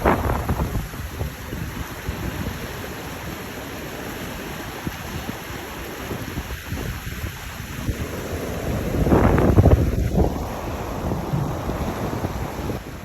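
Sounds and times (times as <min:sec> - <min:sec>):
running water rushing: 0:00.0 - 0:13.0
wind buffeting microphone: 0:00.0 - 0:13.0.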